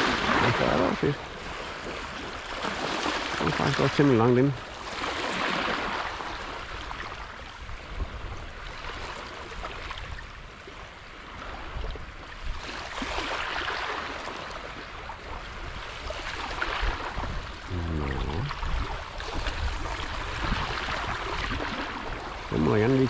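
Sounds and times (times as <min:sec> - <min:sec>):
small waves washing: 0:00.0 - 0:23.0
wind rumble on microphone: 0:00.0 - 0:23.0.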